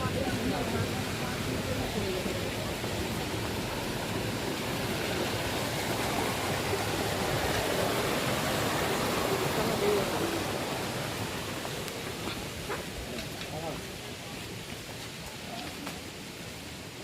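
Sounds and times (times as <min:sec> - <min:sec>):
waterfall rushing water: 0:00.0 - 0:17.0.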